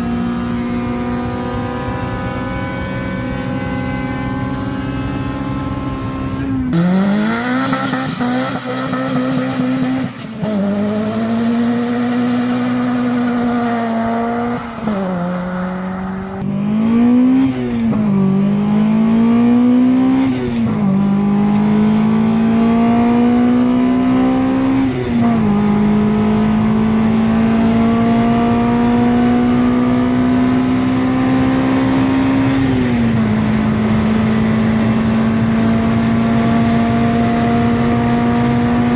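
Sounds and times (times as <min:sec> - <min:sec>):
car engine revving under acceleration: 0:00.0 - 0:38.9.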